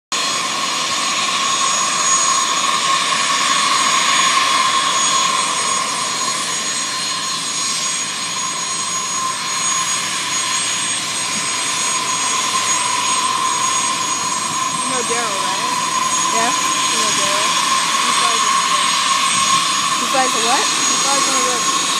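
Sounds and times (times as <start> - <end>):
jet engines whining: 0.1 - 21.9.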